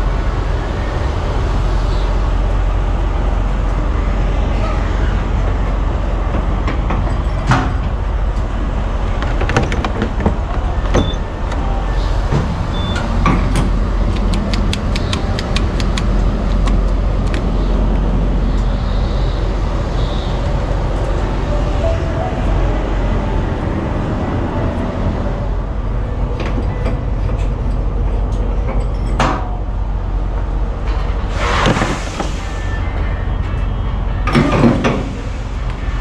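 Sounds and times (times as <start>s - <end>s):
diesel truck engine rumbling: 0.0s - 36.0s.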